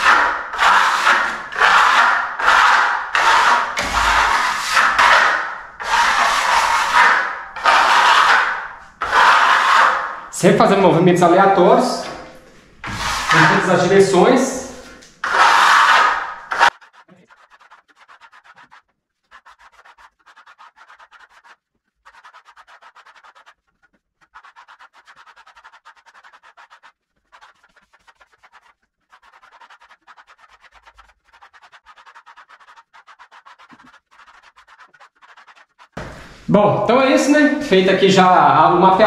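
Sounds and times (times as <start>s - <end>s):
trowel scraping on wall: 0.0s - 10.3s, 12.8s - 36.2s.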